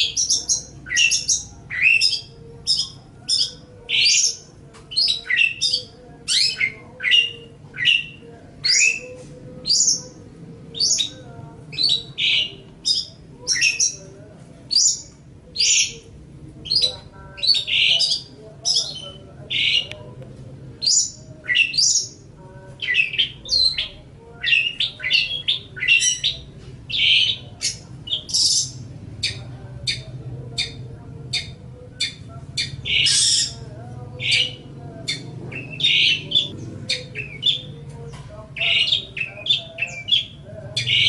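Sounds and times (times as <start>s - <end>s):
bird harsh chattering song: 0.0s - 14.1s, 14.7s - 19.9s, 20.8s - 22.2s, 22.8s - 33.6s, 34.2s - 41.0s.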